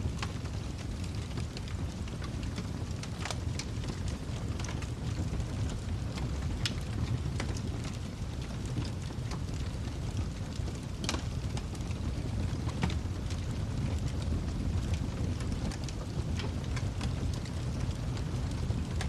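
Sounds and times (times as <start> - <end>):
low roar of flames: 0.0 - 19.0
wood fire crackling: 0.0 - 19.0.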